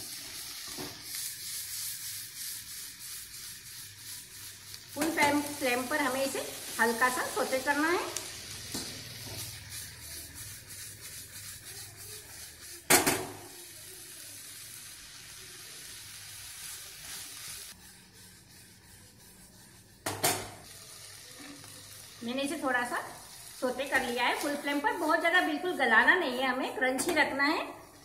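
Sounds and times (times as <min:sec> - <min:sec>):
vegetables sizzling in butter: 0:00.0 - 0:28.0
spatula stirring and scraping: 0:00.2 - 0:14.1, 0:15.8 - 0:28.0.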